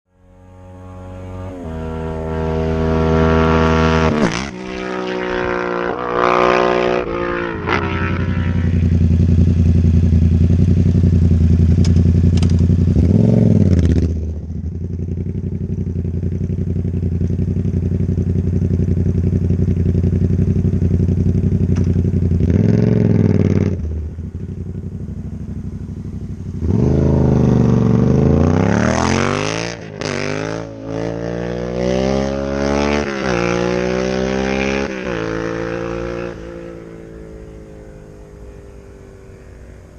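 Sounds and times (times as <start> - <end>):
motorcycle engine accelerating: 0.1 - 39.9.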